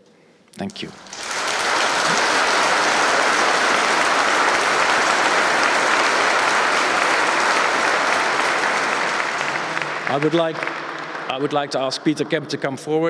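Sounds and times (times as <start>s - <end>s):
large audience applauding: 0.7s - 12.5s.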